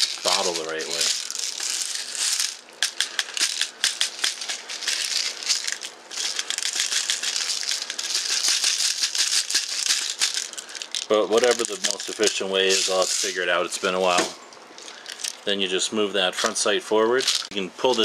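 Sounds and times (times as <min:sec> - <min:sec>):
metal bbs rattling: 0:00.0 - 0:14.0, 0:14.8 - 0:15.5, 0:17.2 - 0:18.0.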